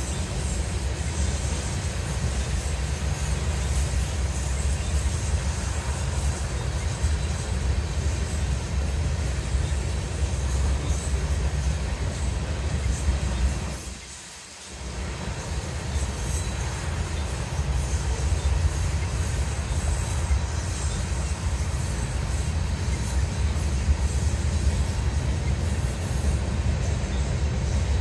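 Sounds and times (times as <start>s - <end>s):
freight train wheels rumbling on rail: 0.0s - 28.0s.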